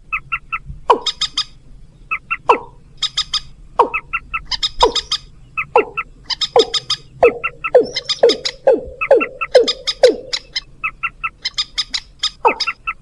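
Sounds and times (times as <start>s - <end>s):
downward-sliding bird calls: 0.0s - 13.0s
higher bird notes: 2.1s - 13.0s.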